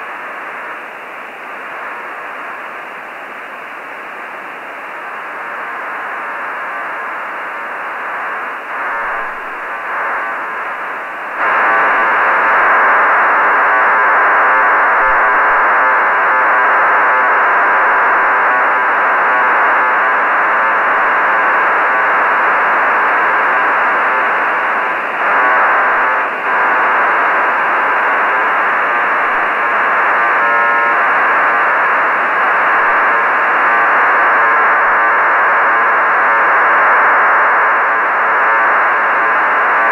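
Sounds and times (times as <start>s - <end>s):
radio telemetry hiss and buzz: 0.0s - 39.9s.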